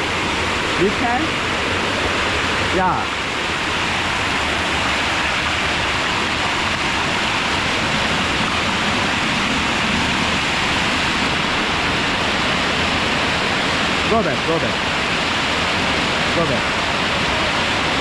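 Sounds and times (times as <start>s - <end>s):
waterfall crashing: 0.0s - 18.0s.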